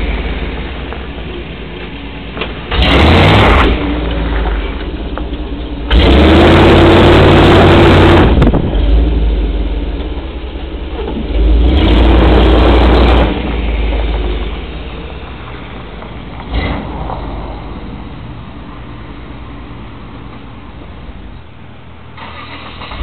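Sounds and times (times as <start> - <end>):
pickup engine revving: 0.0 - 19.2.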